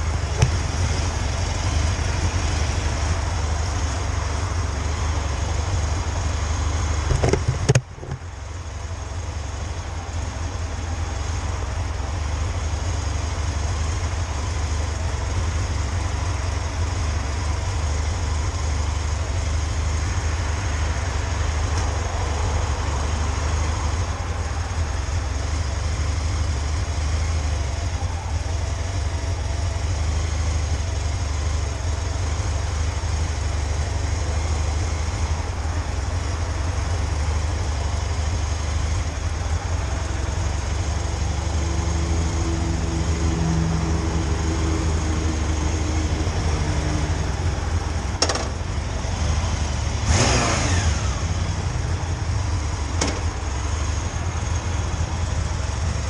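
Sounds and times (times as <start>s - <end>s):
motorcycle rumbling: 0.0s - 56.0s.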